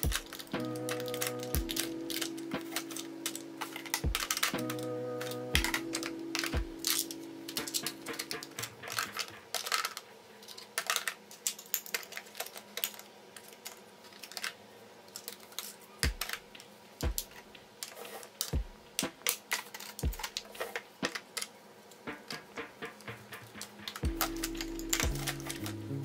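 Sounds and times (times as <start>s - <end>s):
plastic compacts clicking: 0.0s - 21.5s, 23.6s - 25.8s.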